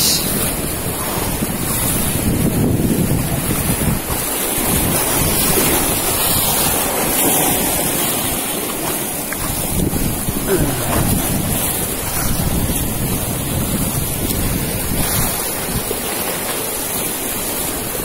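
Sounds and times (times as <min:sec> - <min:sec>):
surf breaking on beach: 0:00.0 - 0:18.0
wind gusting over microphone: 0:00.0 - 0:18.0.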